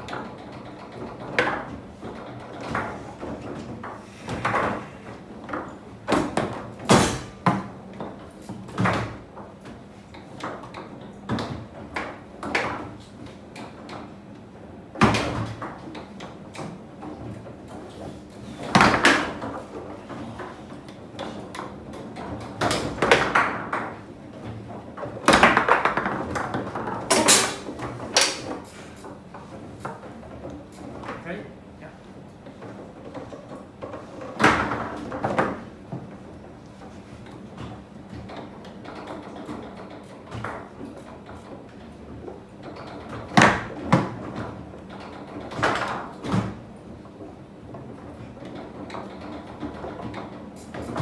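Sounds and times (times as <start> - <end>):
foosball ball clacks: 0.0 - 51.0.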